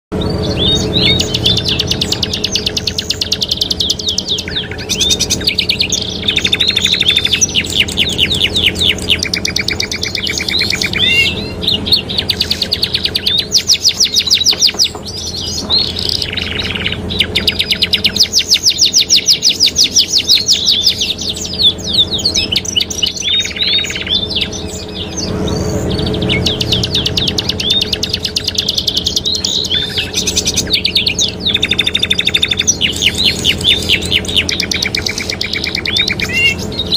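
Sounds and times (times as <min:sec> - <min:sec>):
canaries singing trills: 0:00.1 - 0:36.9
steady low hum: 0:00.1 - 0:36.9.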